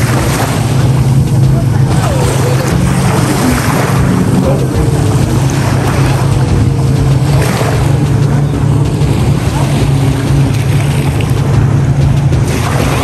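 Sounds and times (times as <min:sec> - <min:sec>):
boat engine humming: 0:00.0 - 0:13.0
water washing: 0:00.0 - 0:13.0.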